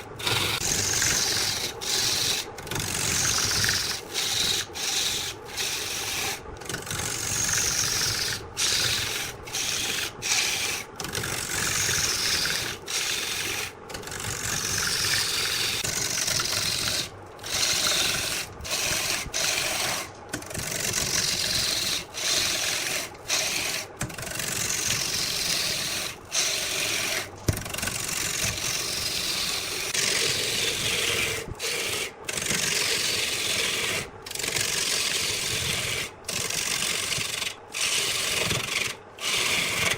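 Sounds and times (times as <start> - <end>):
wood scraping on a lathe: 0.0 - 39.9.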